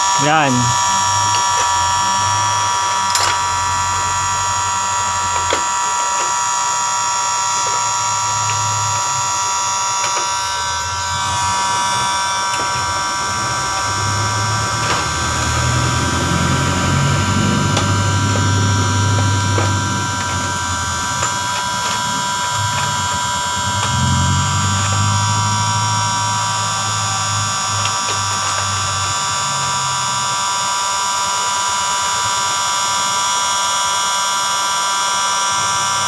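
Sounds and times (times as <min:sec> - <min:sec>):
heat gun fan whining: 0:00.0 - 0:36.0.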